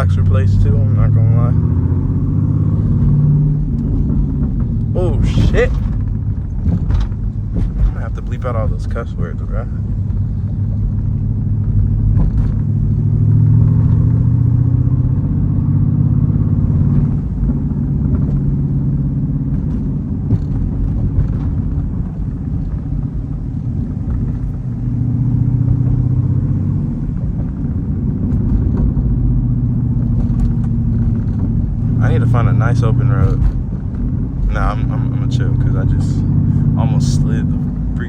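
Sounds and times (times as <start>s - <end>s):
car engine driving: 0.0s - 38.0s.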